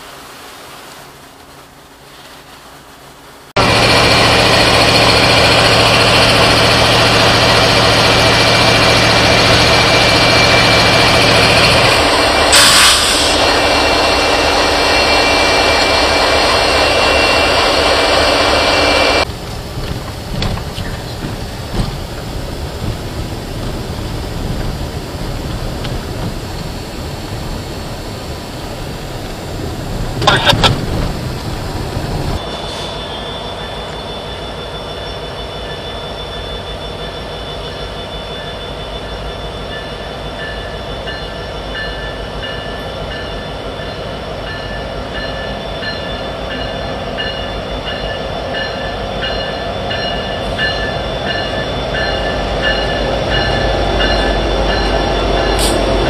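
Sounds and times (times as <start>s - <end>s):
locomotive engines droning: 1.3s - 56.0s.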